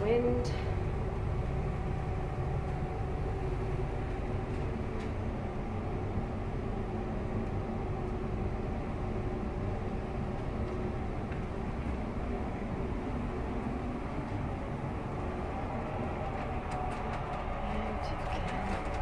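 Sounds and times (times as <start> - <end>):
ship engines rumbling: 0.0 - 19.0
steady hum: 0.0 - 19.0.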